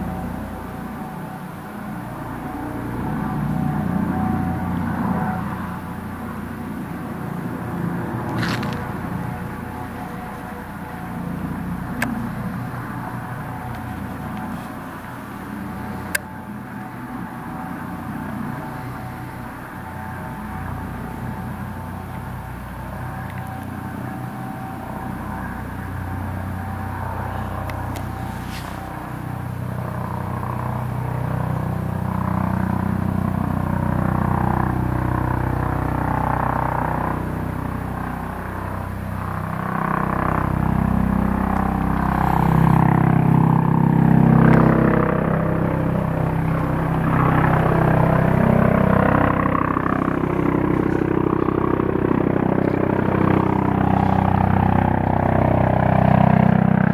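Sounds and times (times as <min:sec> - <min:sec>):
helicopter rotor and turbine: 0:00.0 - 0:56.9.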